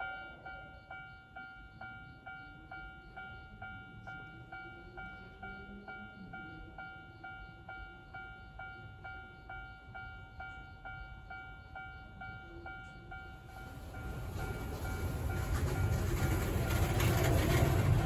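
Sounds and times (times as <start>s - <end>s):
level-crossing warning bell: 0.0s - 18.0s
cable car rumble: 1.8s - 18.0s.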